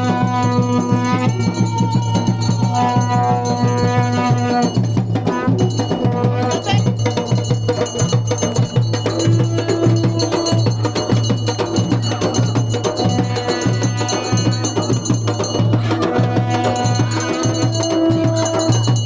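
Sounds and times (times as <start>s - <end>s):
fast drumming: 0.0s - 19.0s
metallic percussion: 0.0s - 19.0s.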